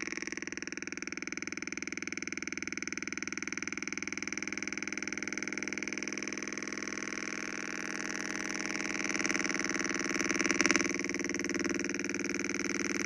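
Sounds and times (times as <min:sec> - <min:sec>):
electronic buzzing tone: 0:00.0 - 0:01.2, 0:02.0 - 0:13.0.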